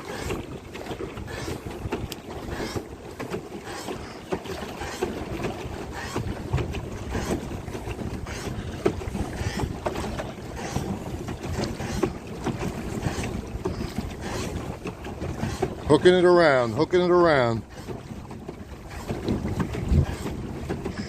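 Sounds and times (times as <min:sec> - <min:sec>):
water sloshing and splashing: 0:00.0 - 0:21.0
wind buffeting microphone: 0:00.0 - 0:21.0.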